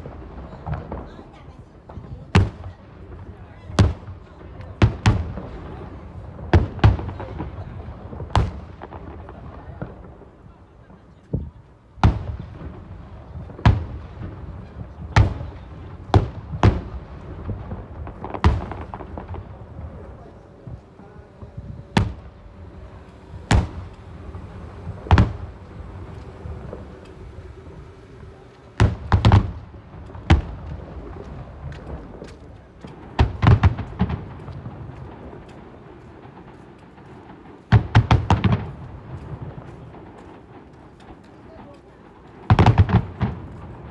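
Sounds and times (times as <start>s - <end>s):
fireworks booming: 0.0s - 43.9s.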